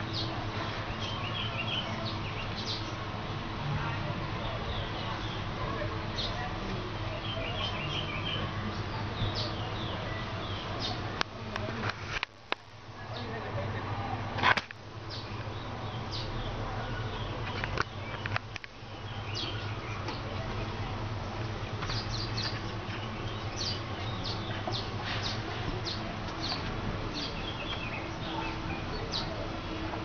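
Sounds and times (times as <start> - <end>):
small birds chirping: 0.0 - 3.2, 3.8 - 13.4, 14.8 - 30.0
steady low hum: 0.0 - 30.0.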